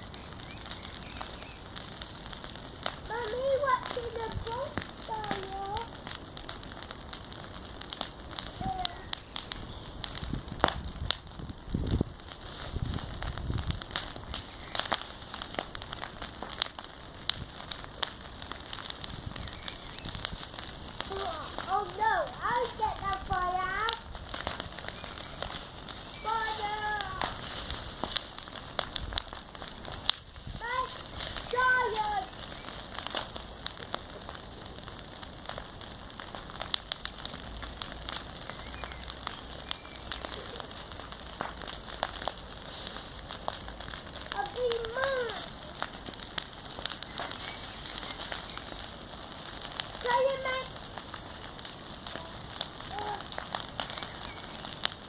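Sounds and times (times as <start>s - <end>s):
bonfire pops and crackles: 0.0s - 55.0s
hiss of flame: 0.0s - 55.0s.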